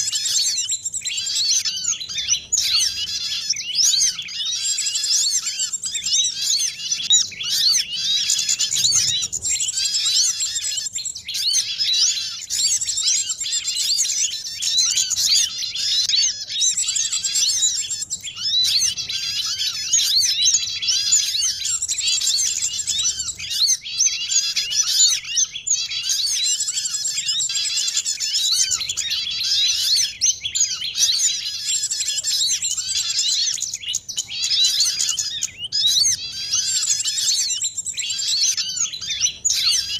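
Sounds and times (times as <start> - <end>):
many small songbirds chirping: 0.0 - 39.9.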